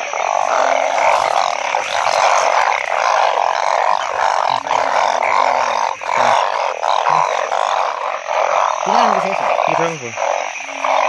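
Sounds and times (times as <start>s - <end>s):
chorus of frogs calling: 0.0s - 11.0s.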